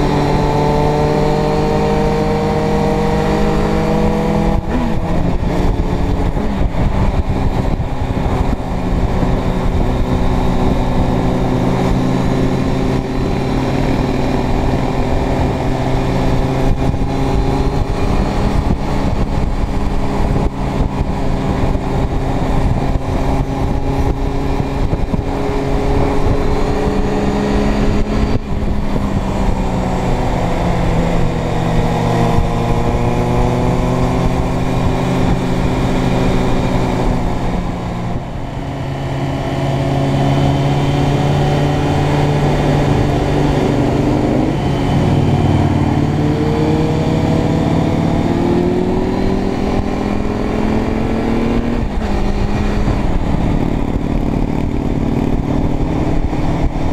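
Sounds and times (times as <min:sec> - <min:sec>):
motorcycle engine running: 0:00.0 - 0:56.9
wind rushing: 0:00.0 - 0:56.9.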